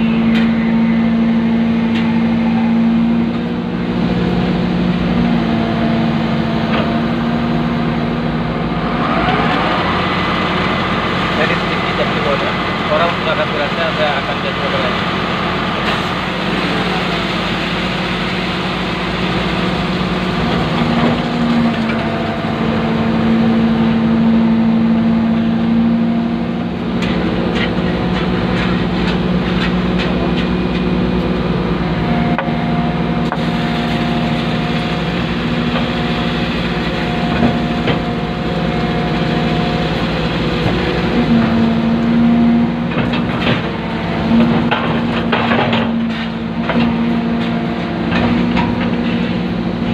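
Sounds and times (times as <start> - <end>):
excavator engine and hydraulics: 0.0 - 49.9
higher hydraulic hum: 0.0 - 49.9.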